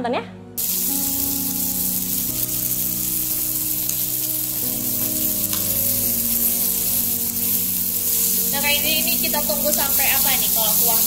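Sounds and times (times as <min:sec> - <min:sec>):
pot hissing on burner: 0:00.6 - 0:11.0.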